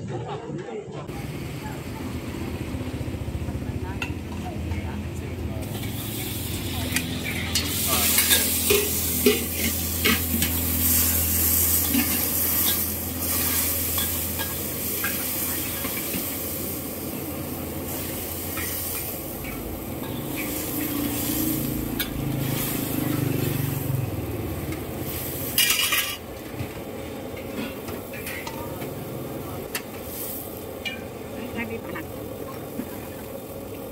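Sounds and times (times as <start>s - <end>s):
liquid sizzling in a wok: 1.1s - 33.9s.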